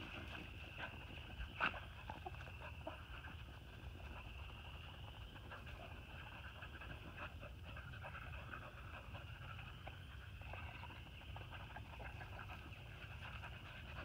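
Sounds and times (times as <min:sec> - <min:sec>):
dogs panting faintly: 0:00.0 - 0:14.0.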